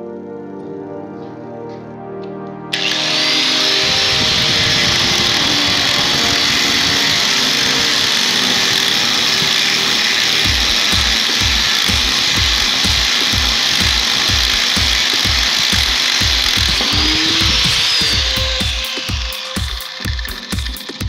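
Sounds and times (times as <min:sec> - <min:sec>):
background music with beat: 0:00.6 - 0:21.0
angle grinder whining: 0:02.7 - 0:21.0.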